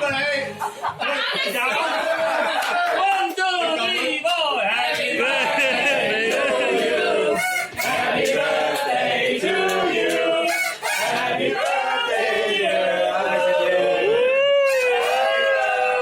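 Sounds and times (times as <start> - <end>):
group of people singing: 1.2 - 3.0, 3.6 - 16.0.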